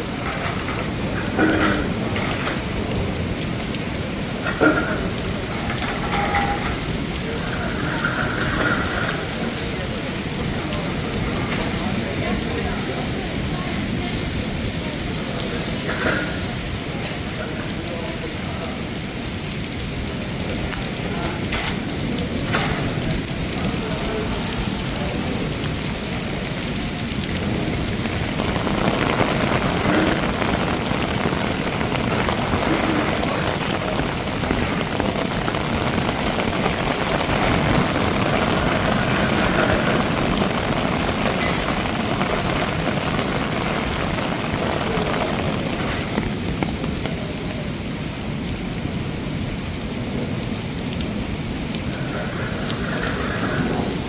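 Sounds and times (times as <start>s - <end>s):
heavy rain splashing on hard surfaces: 0.0s - 54.0s.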